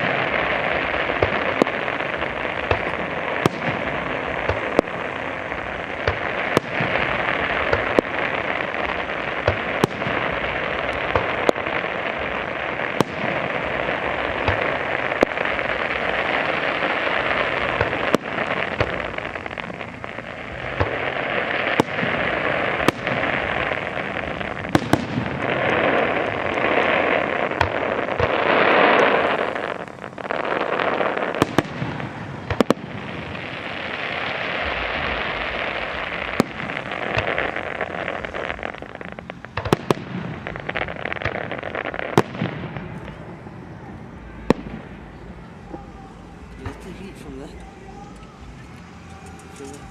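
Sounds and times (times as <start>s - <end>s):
fireworks crackle: 0.0s - 49.9s.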